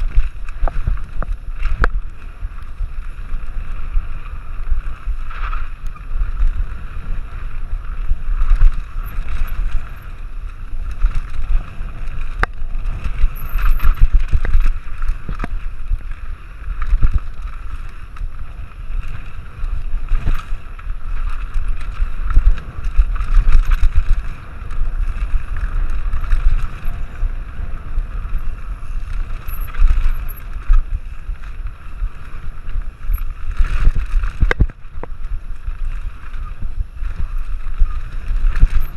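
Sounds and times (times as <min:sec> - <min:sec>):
bike rattles and knocks: 0:00.0 - 0:38.9
bike tyre noise: 0:00.0 - 0:38.9
wind rushing over microphone: 0:00.0 - 0:38.9.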